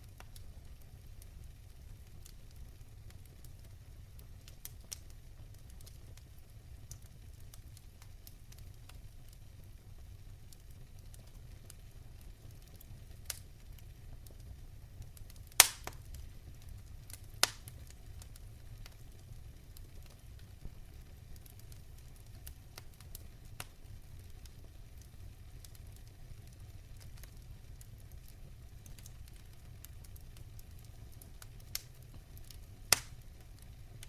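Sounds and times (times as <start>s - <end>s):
fire crackling in a fireplace: 0.0s - 34.0s.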